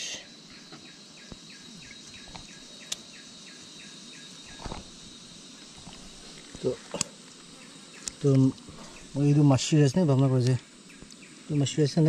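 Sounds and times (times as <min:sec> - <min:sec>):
insect drone: 0:00.0 - 0:12.0
insect falling chirps: 0:00.5 - 0:09.3, 0:10.4 - 0:11.8.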